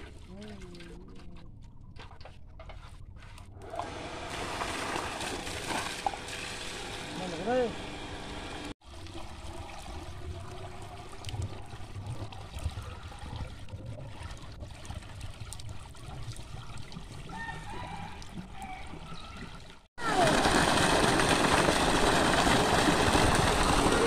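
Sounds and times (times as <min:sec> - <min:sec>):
muddy water pouring from pipe: 0:00.0 - 0:02.8, 0:03.7 - 0:07.4, 0:08.8 - 0:24.0.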